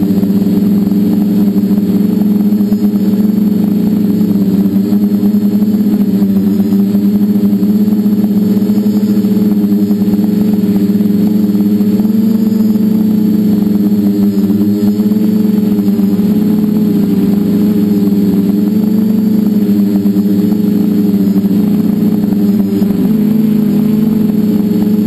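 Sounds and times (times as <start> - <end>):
drone propellers humming: 0.0 - 25.0.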